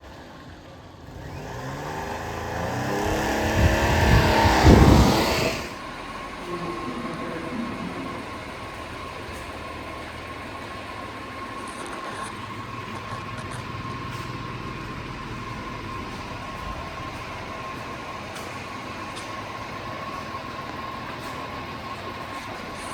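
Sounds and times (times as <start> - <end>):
constant engine whine: 0.0 - 22.9
vehicle engine revving: 0.0 - 22.9.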